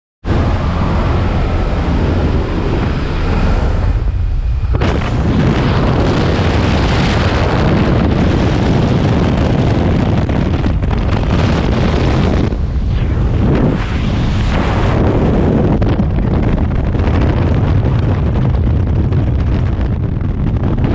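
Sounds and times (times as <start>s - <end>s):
aircraft engine noise: 0.2s - 20.9s
wind buffeting microphone: 0.2s - 20.9s
wind rushing: 0.2s - 20.9s.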